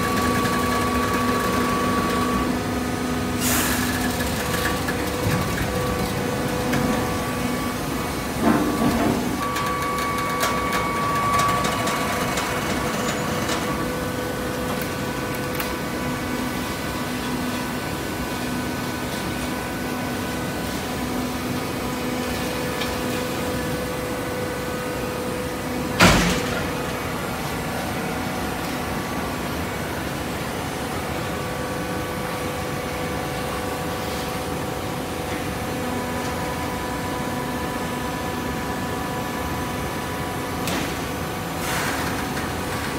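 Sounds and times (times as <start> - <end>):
hydraulic baler humming drone: 0.0 - 42.9.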